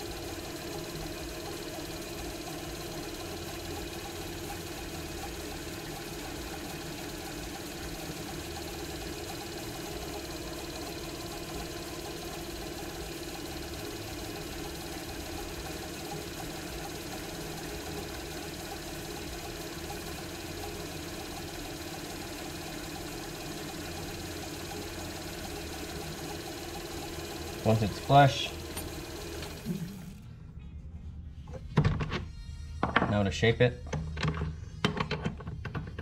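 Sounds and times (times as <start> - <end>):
lathe motor humming: 0.0 - 30.2.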